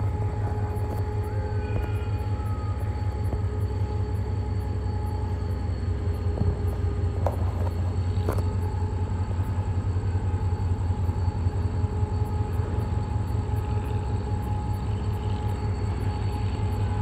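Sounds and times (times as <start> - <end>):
constant whine: 0.0 - 17.0
locomotive diesel engine drone: 0.0 - 17.0.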